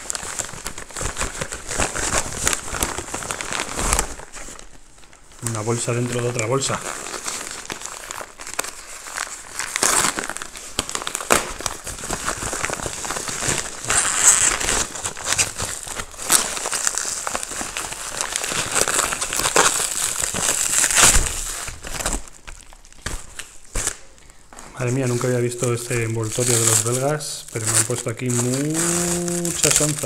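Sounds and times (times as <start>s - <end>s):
packaging bag crinkling: 0.0s - 30.0s
plastic wrapping handled: 0.0s - 30.0s.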